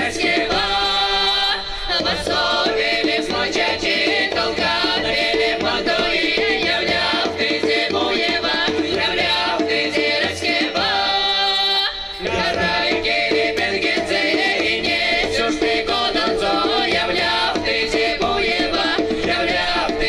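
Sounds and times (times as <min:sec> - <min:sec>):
ensemble of voices singing: 0:00.0 - 0:20.0
hand percussion: 0:00.0 - 0:20.0.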